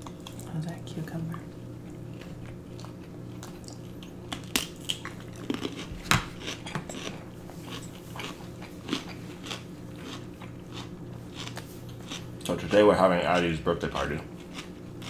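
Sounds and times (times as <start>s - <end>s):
crunchy chewing and mouth smacks: 1.8s - 13.5s, 14.2s - 15.0s.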